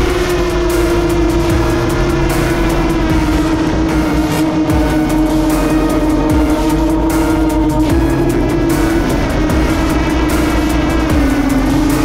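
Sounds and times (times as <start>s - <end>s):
rough low rumble: 0.0s - 12.0s
steady motor hum: 0.0s - 12.0s.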